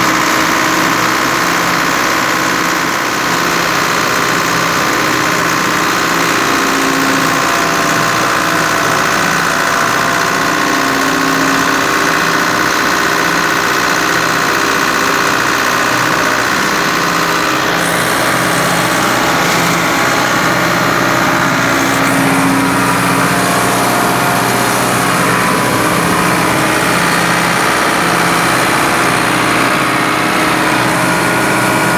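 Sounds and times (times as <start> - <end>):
hay baler running: 0.0 - 31.9
tractor diesel engine under load: 0.0 - 31.9.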